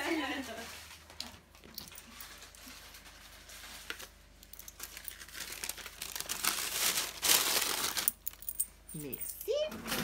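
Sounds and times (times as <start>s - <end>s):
paper crinkling: 0.3s - 8.3s.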